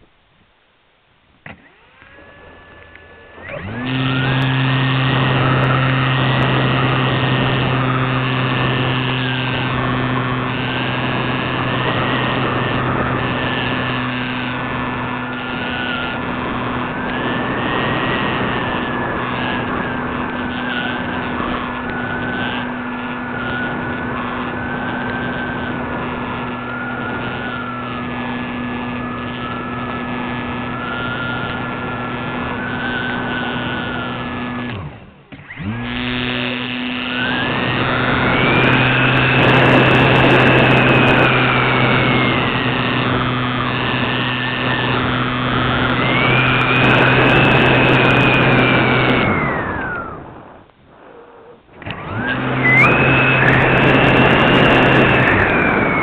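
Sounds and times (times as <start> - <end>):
model aircraft motor whining: 0.0 - 56.0.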